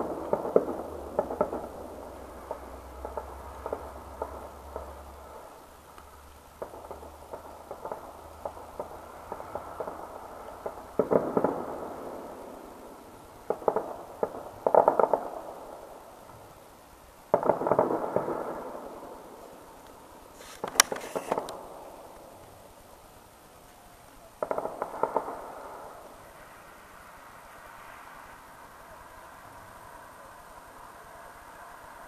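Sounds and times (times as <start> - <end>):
distant fireworks popping and crackling: 0.0 - 32.0.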